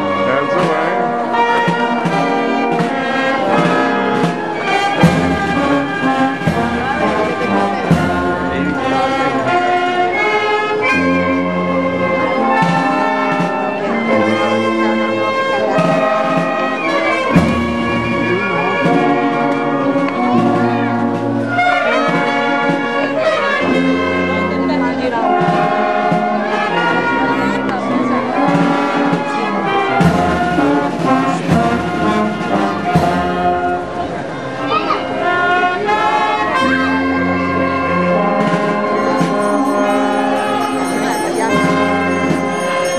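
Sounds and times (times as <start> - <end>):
drum beats: 0.0 - 34.6, 38.0 - 42.9
brass band playing: 0.0 - 42.9.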